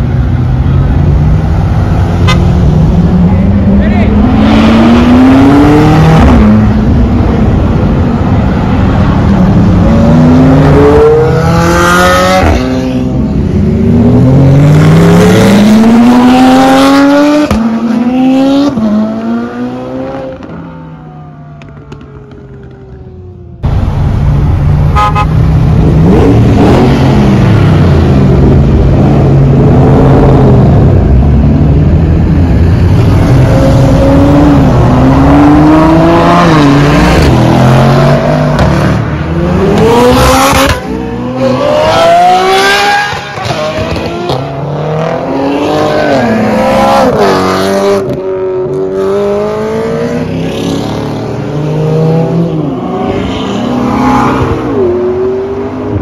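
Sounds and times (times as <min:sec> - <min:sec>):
sports cars revving and accelerating: 0:00.0 - 0:22.5, 0:24.9 - 0:56.0.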